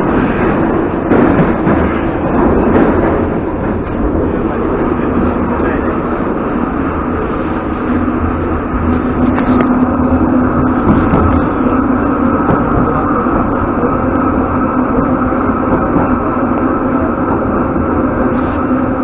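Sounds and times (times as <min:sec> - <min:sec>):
metro train wheels rumbling: 0:00.0 - 0:19.0.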